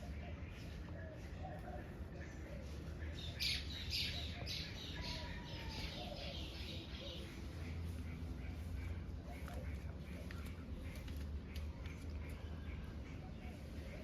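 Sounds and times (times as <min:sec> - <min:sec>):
bird calling: 0:00.0 - 0:14.0
low background noise: 0:00.0 - 0:14.0.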